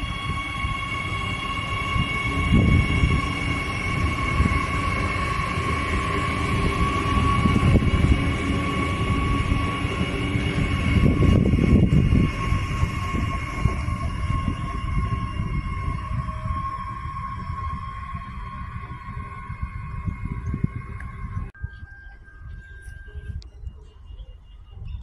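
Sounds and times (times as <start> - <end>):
train wheels rumbling on rails: 0.0 - 24.7
electric train whine: 0.0 - 25.0.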